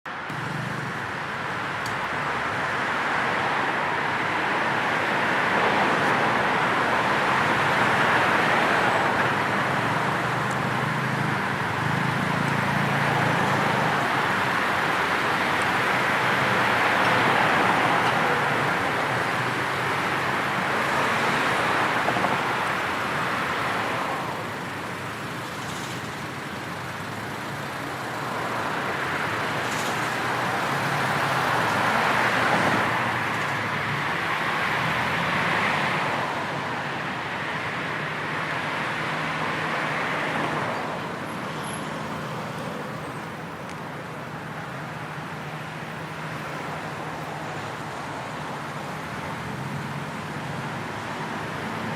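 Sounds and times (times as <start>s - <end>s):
cars passing: 0.1s - 51.9s.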